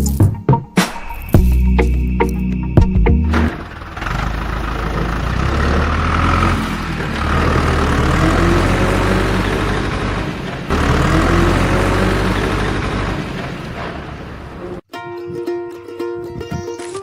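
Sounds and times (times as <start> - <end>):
engine running: 0.9 - 14.8.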